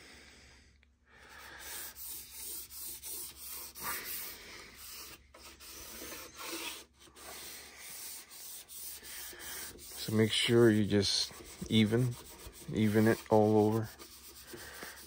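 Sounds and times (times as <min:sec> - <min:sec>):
cloth rag rubbing on wood: 0:01.6 - 0:15.0.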